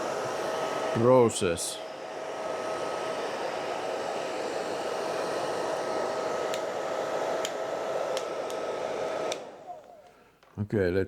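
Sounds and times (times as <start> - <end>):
hair dryer running: 0.0 - 10.5.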